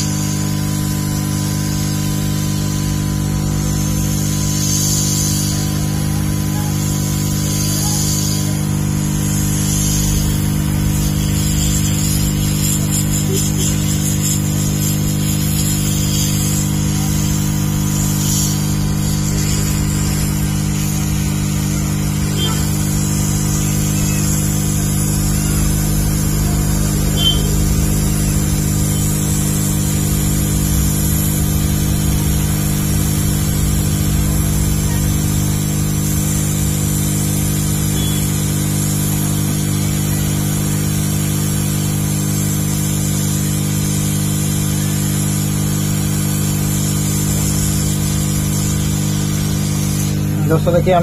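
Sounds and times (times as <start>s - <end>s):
hot air gun blowing: 0.0s - 51.0s.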